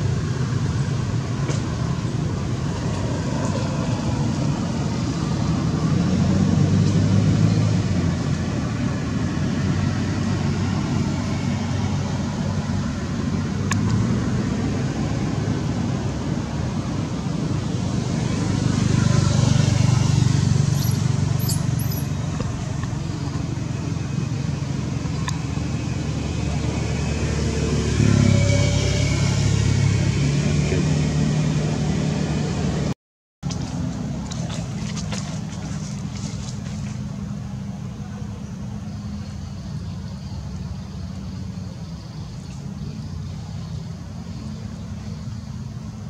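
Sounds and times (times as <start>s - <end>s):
low engine rumble: 0.0s - 46.0s.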